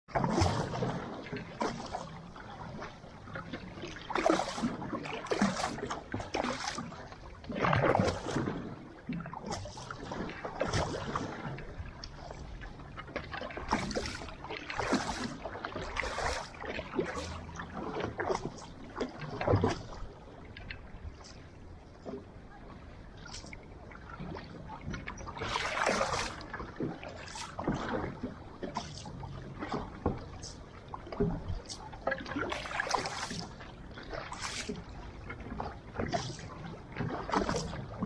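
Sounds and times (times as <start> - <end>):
wind: 0.0 - 38.0
water splashing around canoe: 0.1 - 38.0.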